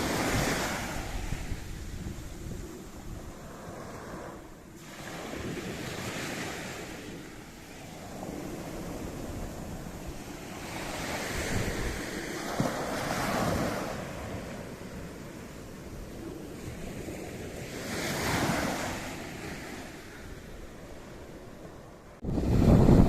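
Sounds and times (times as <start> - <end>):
sea waves breaking: 0.0 - 23.0
wind buffeting microphone: 0.0 - 23.0.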